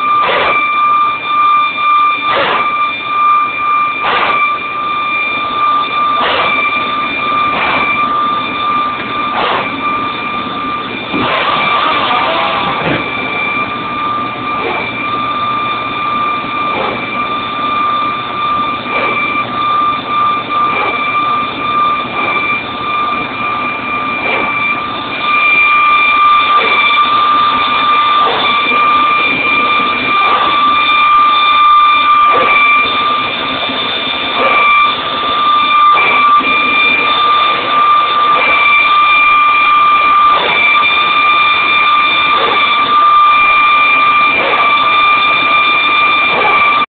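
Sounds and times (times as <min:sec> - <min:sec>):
hydraulic pump whine with knocks: 0:00.0 - 0:46.9.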